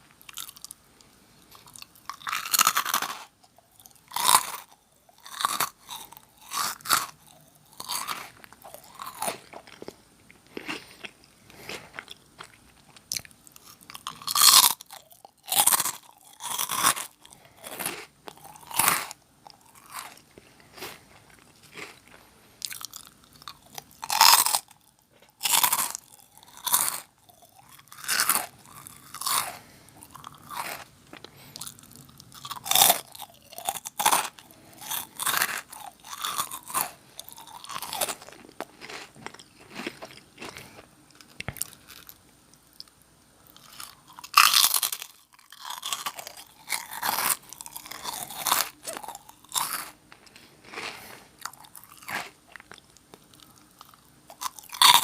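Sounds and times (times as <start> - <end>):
crunching and chewing crackers: 0.0 - 55.0.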